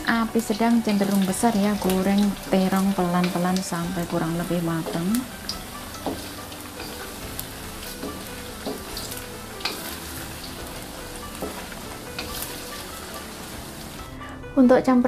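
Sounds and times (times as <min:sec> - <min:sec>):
eggplant frying in hot oil: 0:00.0 - 0:14.1.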